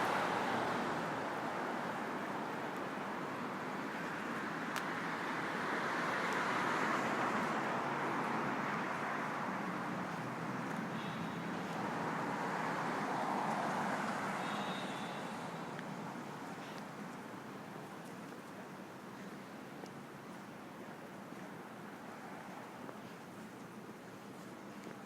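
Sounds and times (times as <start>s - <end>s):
cars passing on road: 0.0s - 25.0s.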